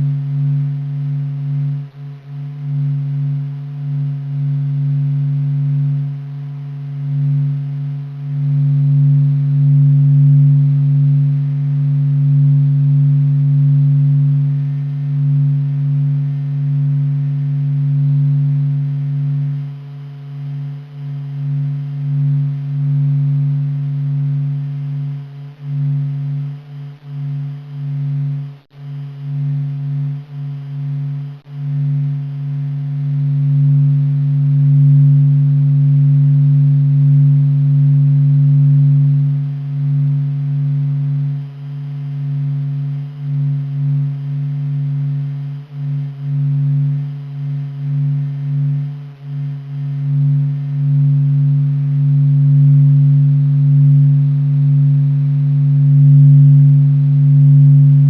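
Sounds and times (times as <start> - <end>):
deep electronic hum: 0.0 - 58.0.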